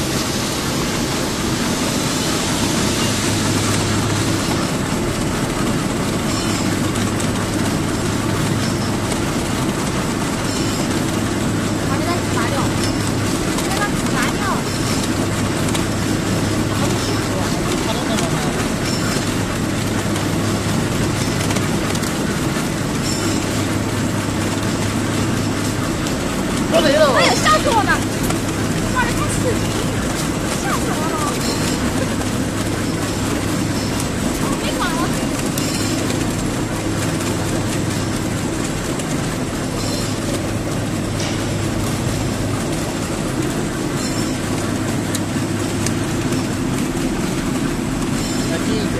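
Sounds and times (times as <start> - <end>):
low machine hum: 0.0 - 48.9
machine clatter: 0.0 - 48.9.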